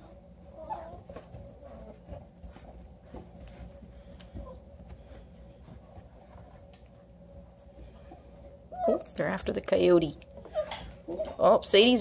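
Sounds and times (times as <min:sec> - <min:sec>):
puppies scuffling: 0:00.0 - 0:12.0.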